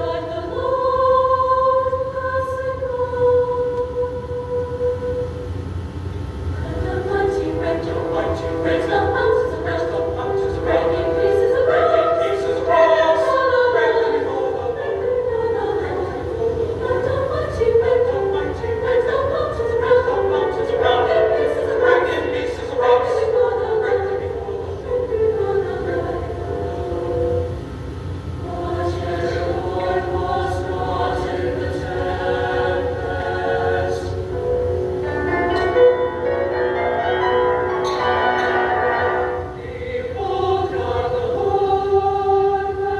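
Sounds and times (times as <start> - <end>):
mixed choir singing in harmony: 0.0 - 5.6, 6.6 - 42.9.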